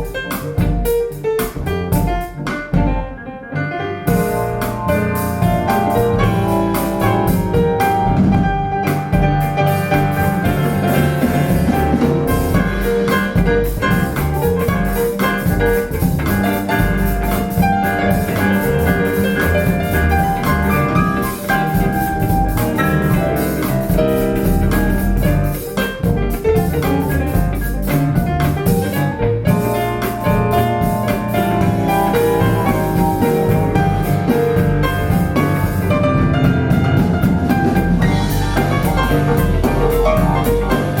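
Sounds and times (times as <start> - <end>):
jazz song with piano and drums: 0.0 - 41.0.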